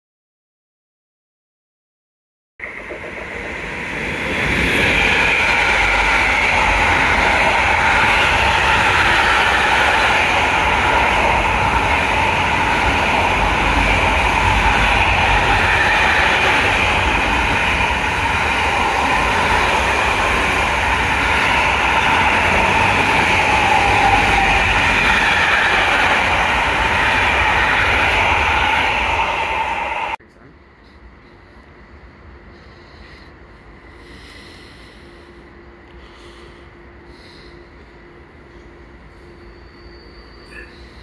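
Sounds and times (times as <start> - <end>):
train wheels rumbling on rails: 2.6 - 41.0.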